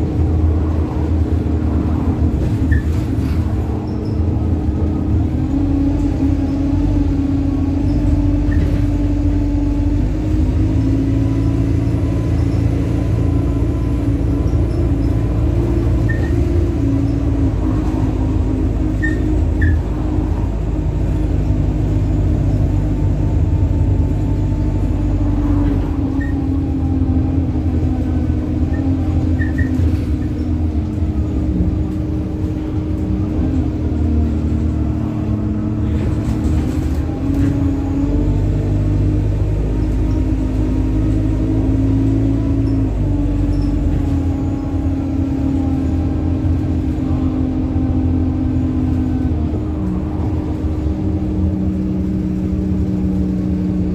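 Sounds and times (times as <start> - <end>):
bus engine drone: 0.0 - 53.9
whining drivetrain tone: 0.0 - 53.9.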